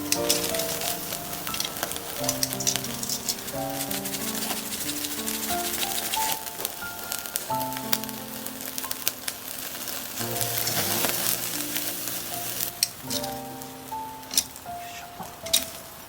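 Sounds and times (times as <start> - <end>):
background music of held notes: 0.0 - 16.0
food sizzling over charcoal: 0.0 - 16.0
sharp crackling pops: 0.0 - 16.0.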